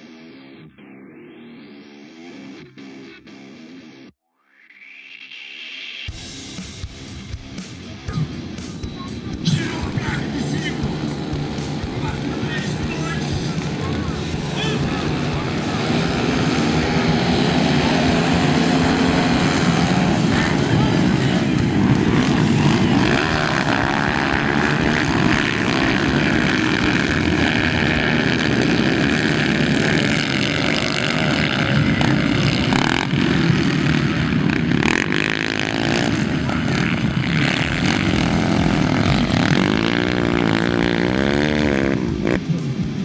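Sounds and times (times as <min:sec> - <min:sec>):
motocross bikes racing: 0:06.1 - 0:43.0
motorcycle engine revving: 0:06.1 - 0:43.0.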